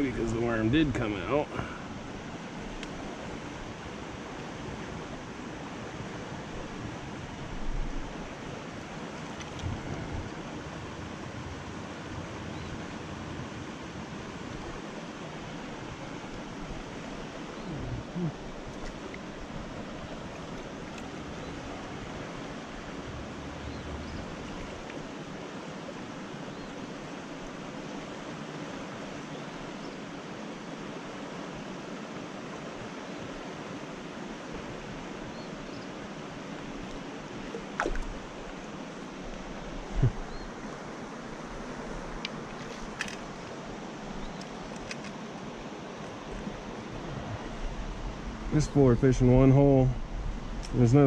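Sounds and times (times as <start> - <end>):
creek water over rocks: 0.0 - 51.0.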